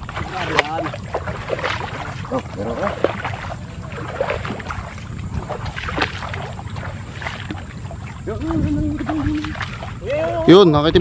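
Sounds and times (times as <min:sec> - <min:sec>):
feet wading through water: 0:00.0 - 0:11.0
wind rumble on microphone: 0:00.0 - 0:11.0.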